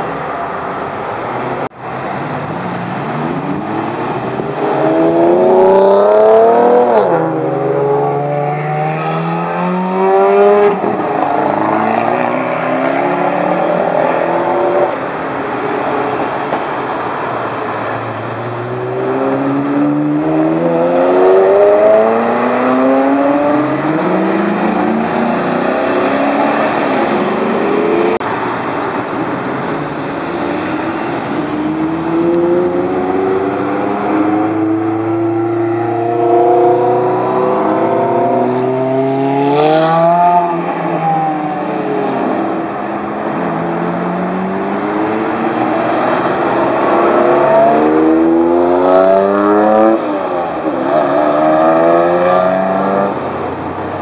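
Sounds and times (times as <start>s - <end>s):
sports car engines revving: 0.0s - 54.0s.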